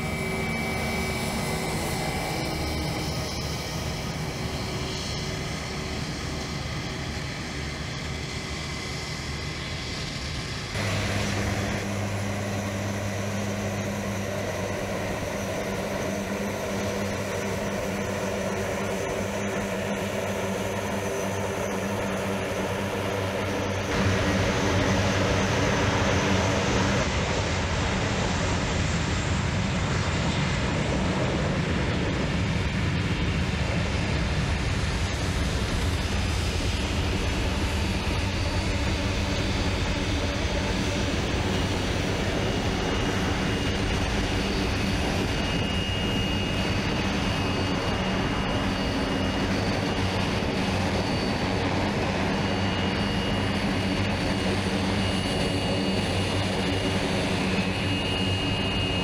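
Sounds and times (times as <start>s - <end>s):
airliner engines taxiing: 0.0s - 59.0s
hum of aircraft engines: 0.0s - 59.0s.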